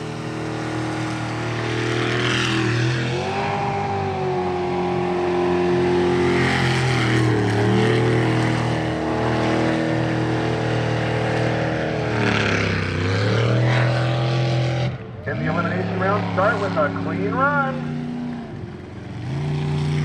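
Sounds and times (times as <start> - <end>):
boat engine at high revs: 0.0 - 20.0.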